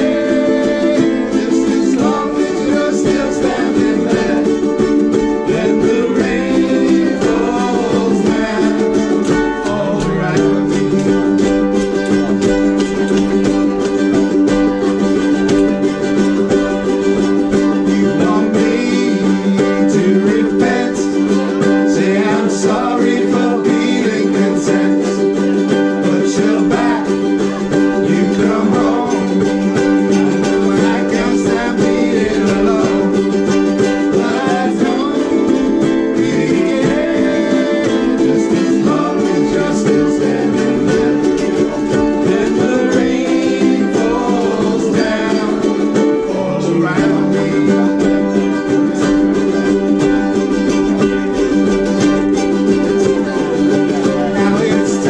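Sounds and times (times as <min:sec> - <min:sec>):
group singing: 0:00.0 - 0:55.0
ukuleles strummed together: 0:00.0 - 0:55.0.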